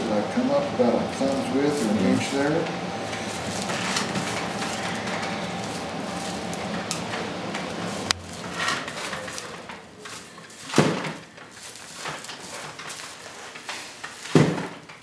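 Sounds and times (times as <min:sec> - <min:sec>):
straws rustling: 0:00.8 - 0:15.0.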